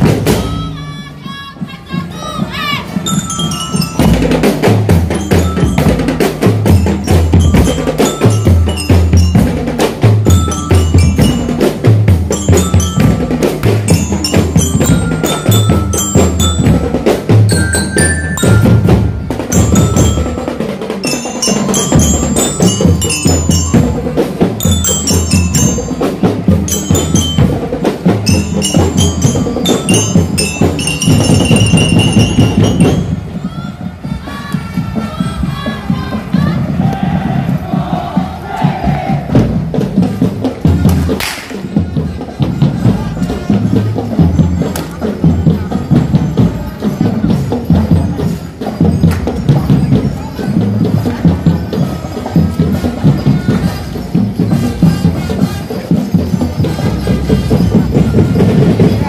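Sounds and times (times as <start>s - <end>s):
bass drums beating: 0.0s - 59.0s
marching glockenspiel melody: 2.8s - 33.5s, 39.4s - 59.0s.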